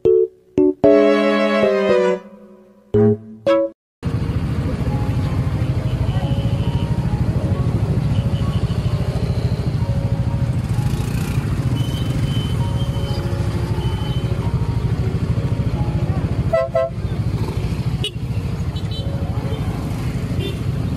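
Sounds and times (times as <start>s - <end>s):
motorcycle engine and road rumble: 4.0s - 20.9s.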